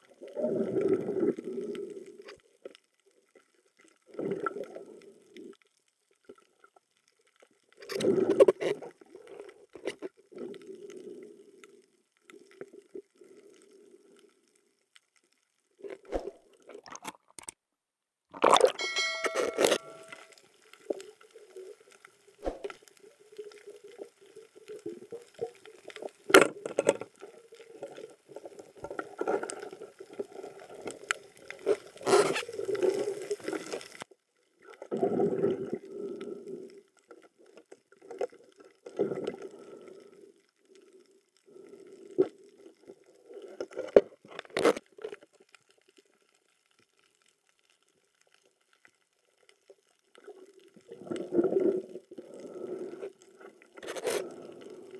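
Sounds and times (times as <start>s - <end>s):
muffled underwater water noise: 0.0s - 17.6s, 18.3s - 54.9s.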